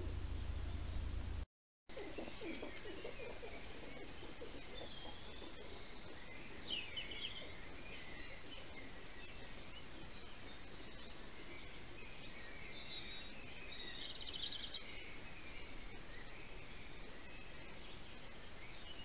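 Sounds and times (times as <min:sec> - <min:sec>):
songbird chirps: 0:01.9 - 0:19.0.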